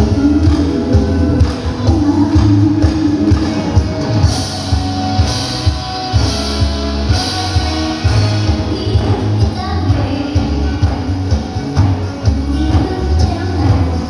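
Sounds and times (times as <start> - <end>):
drums beating: 0.0 - 14.0
loud rock music: 0.0 - 14.0.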